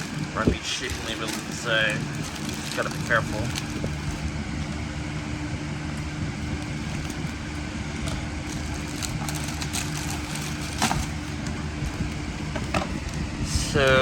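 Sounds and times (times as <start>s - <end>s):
packaging crinkling: 0.0s - 4.9s, 5.9s - 13.3s
steady low hum: 0.0s - 14.0s.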